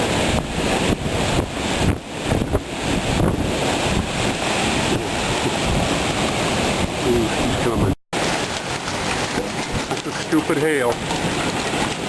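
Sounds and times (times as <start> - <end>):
wind driving hail and rain: 0.0 - 7.6, 8.2 - 12.0
wind buffeting microphone: 0.0 - 12.0.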